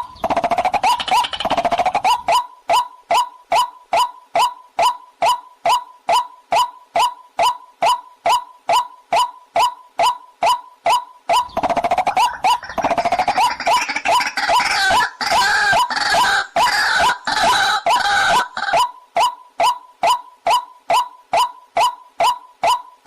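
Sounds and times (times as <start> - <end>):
waterhen calling: 0.0 - 18.9.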